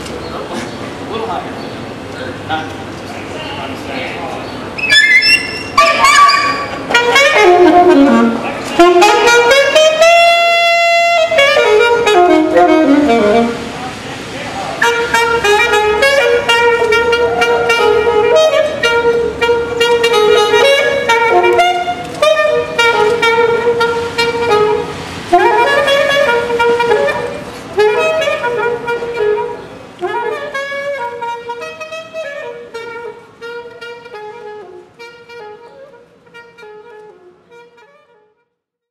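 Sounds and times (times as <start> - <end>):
saxophone playing jazzy melody: 4.8 - 14.0, 14.7 - 38.6.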